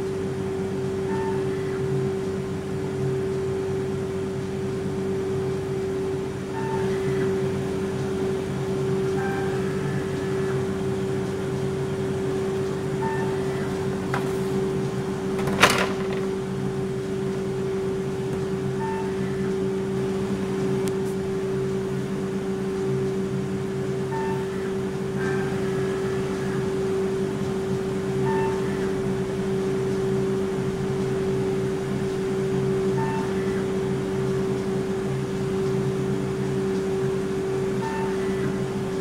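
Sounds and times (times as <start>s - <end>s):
ice cream machine hum: 0.0s - 39.0s.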